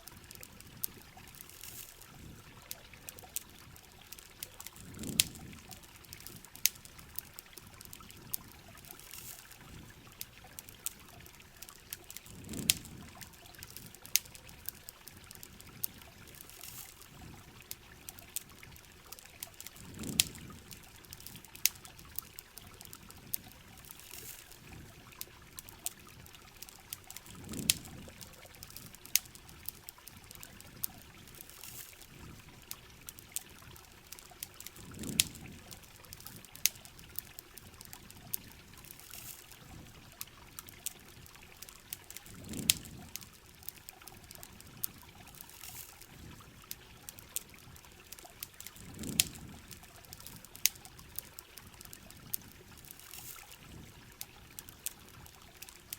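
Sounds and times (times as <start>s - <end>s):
campfire crackling and popping: 0.0s - 55.9s
pouring water: 0.0s - 55.9s.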